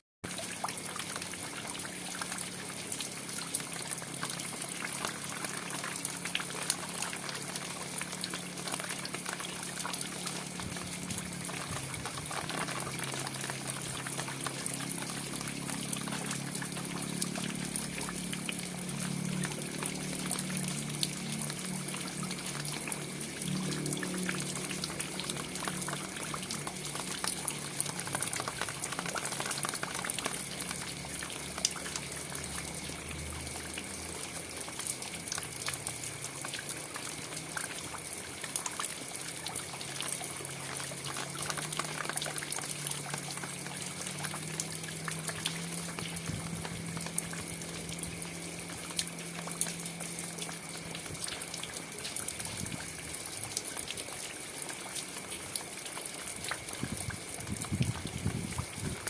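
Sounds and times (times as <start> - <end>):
rain falling with ticking drops: 0.2 - 59.0.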